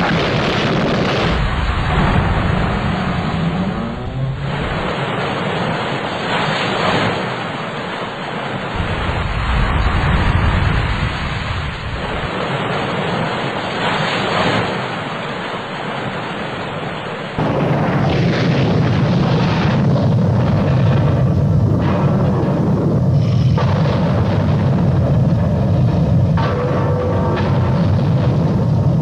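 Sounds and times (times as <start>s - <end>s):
heavy waves breaking: 0.0s - 29.0s
wind roaring: 0.0s - 29.0s.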